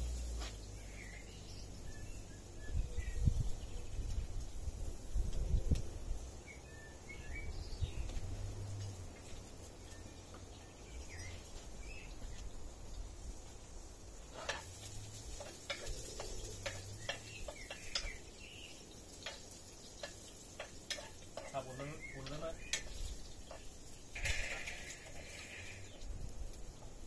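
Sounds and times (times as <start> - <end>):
birds chirping: 0.3 - 27.0.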